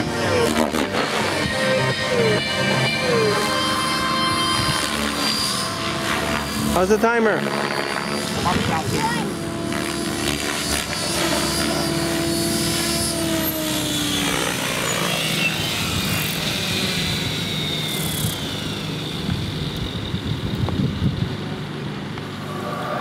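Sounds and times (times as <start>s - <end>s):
electric motor whine: 0.0s - 23.0s
helicopter rotor blades spinning: 0.0s - 23.0s.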